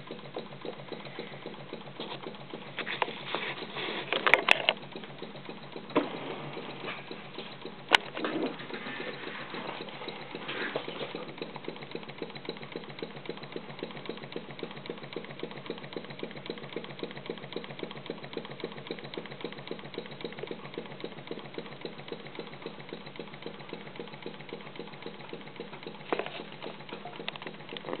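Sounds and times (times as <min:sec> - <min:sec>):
model steam engine exhaust puffs: 0:00.0 - 0:28.0.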